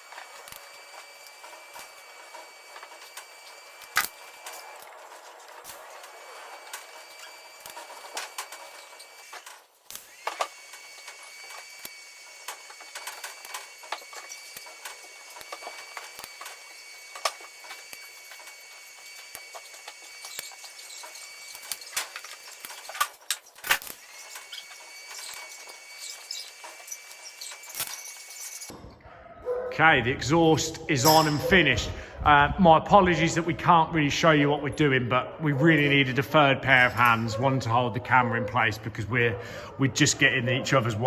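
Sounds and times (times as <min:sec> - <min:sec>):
welding arc whine: 0:00.0 - 0:29.0, 0:30.0 - 0:41.0.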